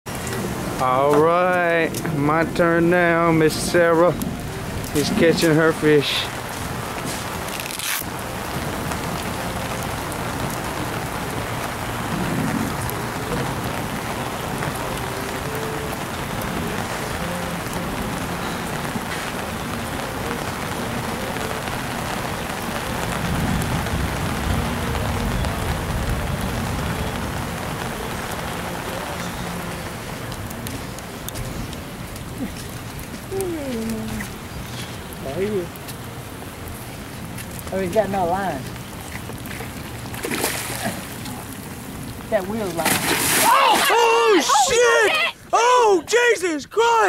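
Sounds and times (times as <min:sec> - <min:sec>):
rain on wooden deck and water: 0:00.0 - 0:47.0
low rumbles: 0:00.1 - 0:43.5.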